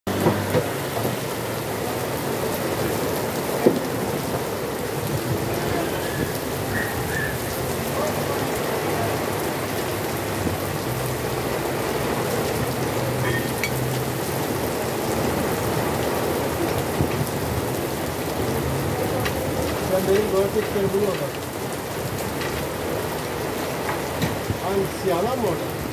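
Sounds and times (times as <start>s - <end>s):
heavy rain on pavement: 0.1s - 25.9s.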